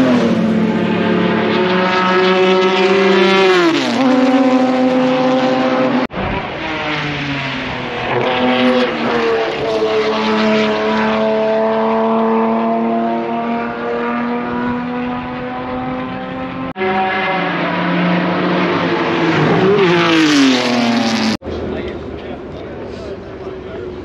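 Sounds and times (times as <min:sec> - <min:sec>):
racing car engine high revs: 0:00.0 - 0:21.4.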